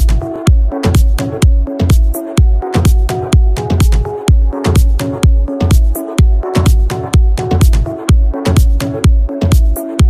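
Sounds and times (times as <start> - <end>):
electro-pop dance music: 0.0 - 10.0.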